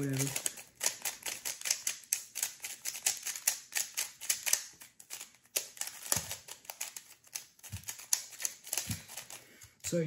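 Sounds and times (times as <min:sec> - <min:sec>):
speed cube clicking: 0:00.0 - 0:09.4.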